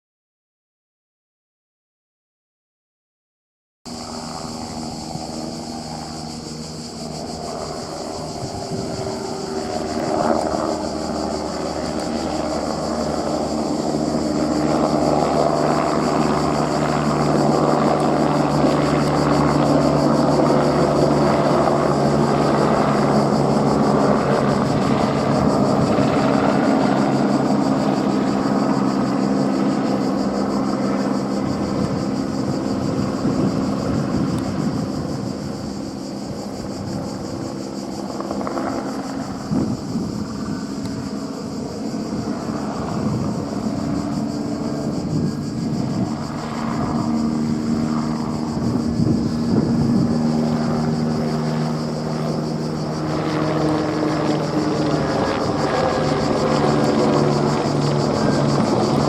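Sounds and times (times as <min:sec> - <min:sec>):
helicopter rotor and turbine drone: 0:03.9 - 0:59.0.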